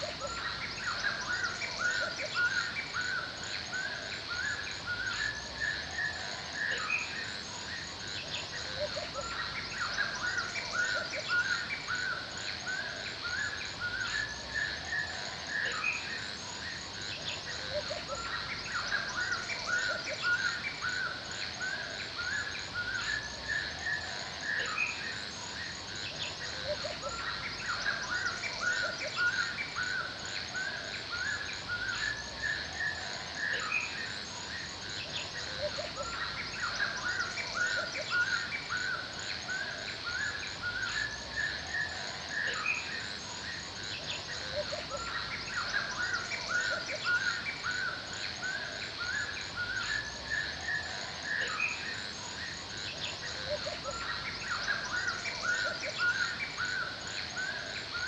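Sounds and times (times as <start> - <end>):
birds chirping and calling: 0.0 - 58.0
high insect drone: 0.0 - 58.0.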